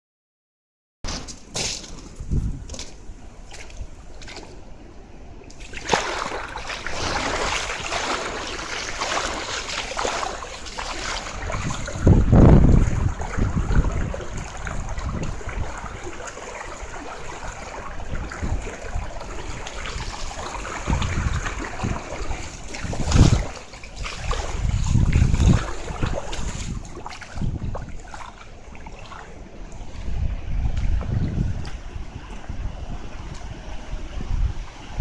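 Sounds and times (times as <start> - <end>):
floodwater running: 1.6 - 35.0
wind gusts buffeting microphone: 2.1 - 4.1, 5.8 - 35.0.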